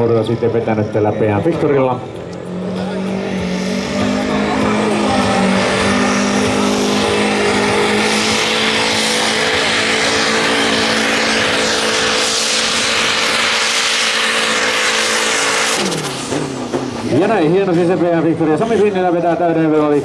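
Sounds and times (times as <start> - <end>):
diesel tractor running flat out: 0.0 - 20.0
rushing noise: 1.8 - 19.6.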